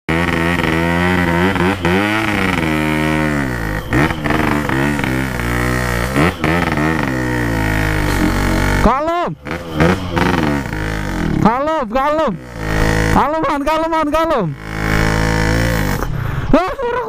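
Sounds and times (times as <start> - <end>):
two-stroke motorcycle engine revving: 0.1 - 16.8.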